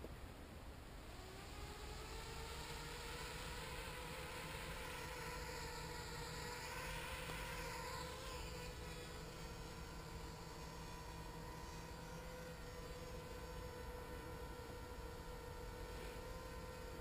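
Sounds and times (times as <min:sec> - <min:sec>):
quadcopter motors whining: 0:00.9 - 0:17.0.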